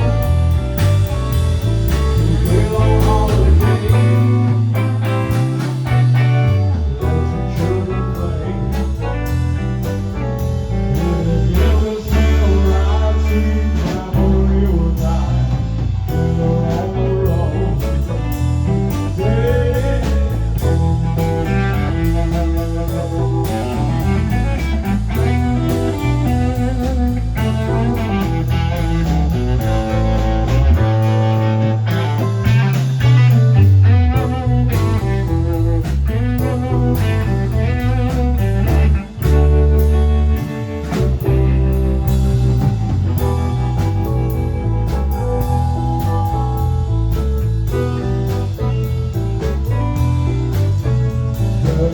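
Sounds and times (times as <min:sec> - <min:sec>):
blues-rock band music: 0:00.0 - 0:51.9.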